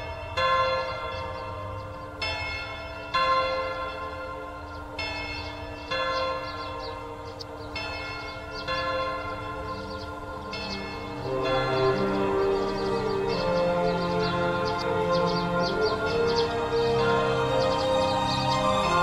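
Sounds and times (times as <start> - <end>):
clock tower bells chiming: 0.0 - 19.0.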